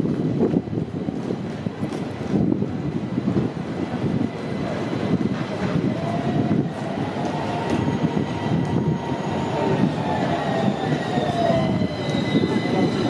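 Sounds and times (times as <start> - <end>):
faint tram whine: 0.0 - 13.0
tram wheels rumbling on rails: 0.0 - 13.0.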